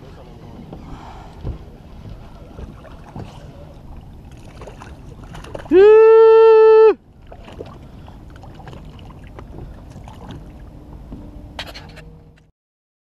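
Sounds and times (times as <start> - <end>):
boat and water noise: 0.0 - 12.5.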